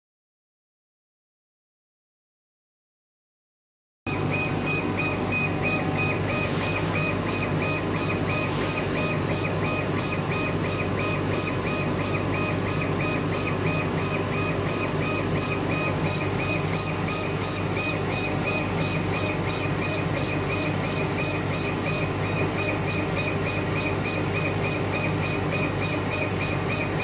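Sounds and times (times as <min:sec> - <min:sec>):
laser cutter head whine: 0:04.1 - 0:27.0
machine low hum: 0:04.1 - 0:27.0.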